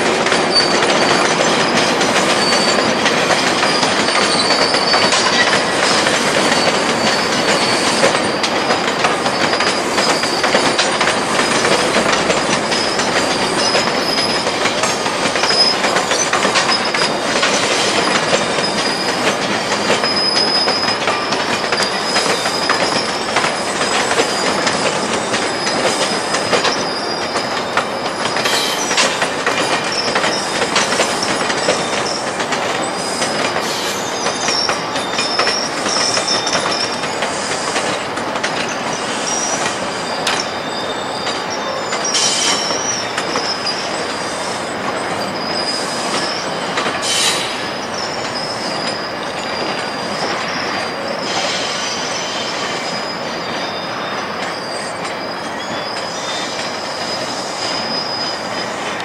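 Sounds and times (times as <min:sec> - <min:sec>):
train wheels clattering on rail joints: 0:00.0 - 0:59.0
high-pitched wheel squeal: 0:00.3 - 0:37.9, 0:38.7 - 0:59.0.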